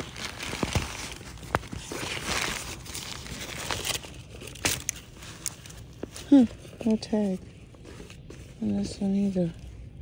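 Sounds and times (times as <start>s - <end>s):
fabric backpack rustling: 0.0s - 9.8s.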